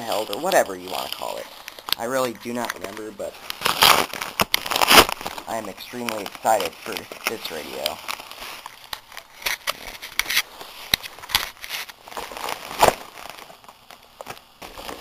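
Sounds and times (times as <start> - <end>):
packaging crinkling and tearing: 0.0 - 15.0.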